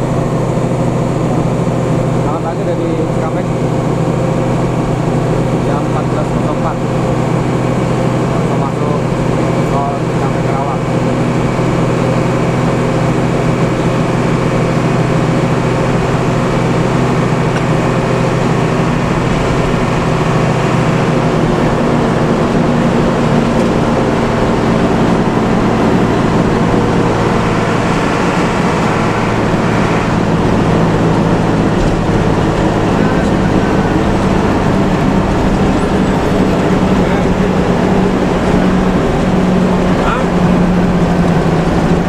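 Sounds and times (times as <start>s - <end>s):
bus engine droning: 0.0s - 42.0s
road and tyre noise: 0.0s - 42.0s.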